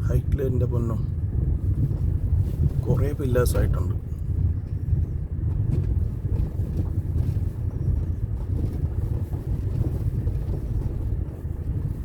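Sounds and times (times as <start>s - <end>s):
vehicle rumble on road: 0.0s - 12.0s
wind buffeting microphone: 0.0s - 12.0s.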